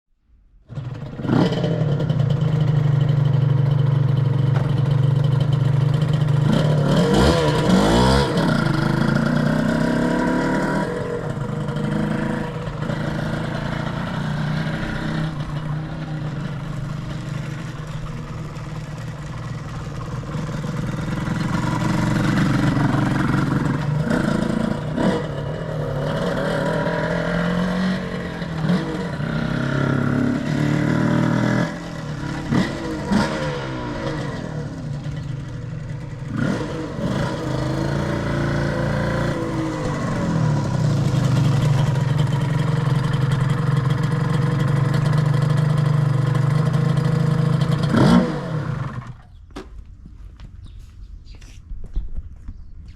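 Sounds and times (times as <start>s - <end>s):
motorcycle engine revving: 0.7s - 49.5s.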